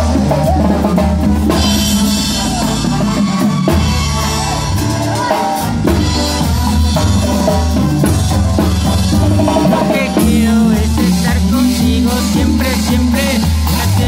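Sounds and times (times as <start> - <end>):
deep bass line: 0.0 - 14.0
drum kit beat: 0.0 - 14.0.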